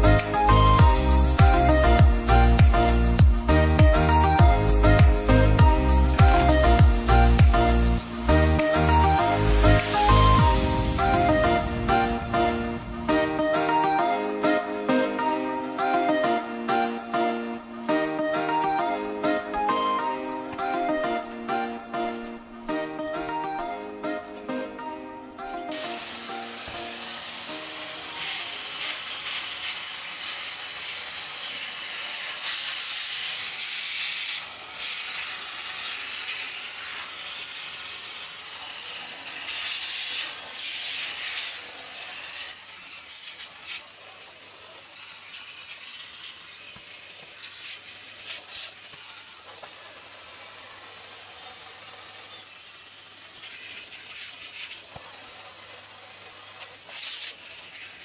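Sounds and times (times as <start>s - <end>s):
vacuum cleaner suction: 4.2s - 21.2s, 25.7s - 58.0s.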